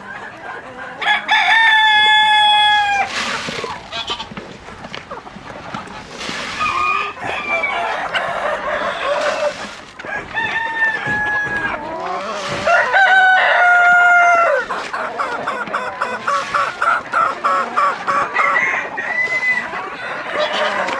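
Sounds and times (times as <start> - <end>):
hens clucking: 0.0 - 20.9
roosters crowing: 0.9 - 4.3, 6.5 - 20.9.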